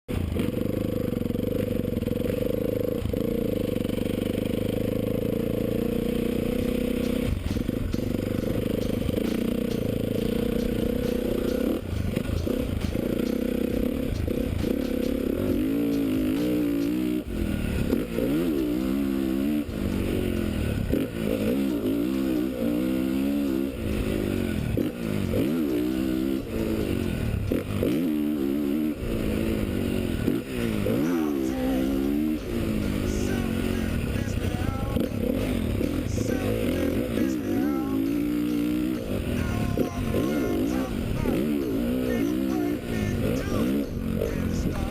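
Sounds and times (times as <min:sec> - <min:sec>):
dirt bike engine revving: 0:00.1 - 0:44.9.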